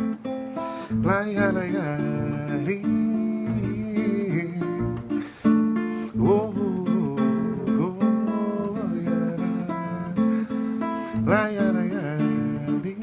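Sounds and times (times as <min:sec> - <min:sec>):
acoustic guitar strumming: 0:00.0 - 0:13.0
person singing wordless vocalise: 0:00.7 - 0:13.0.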